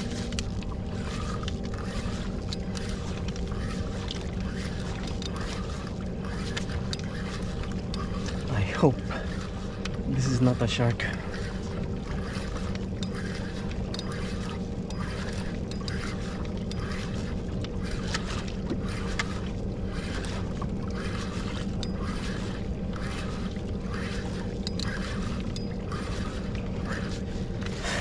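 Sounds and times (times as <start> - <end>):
steady low hum: 0.0 - 28.0
water lapping against hull: 0.0 - 28.0.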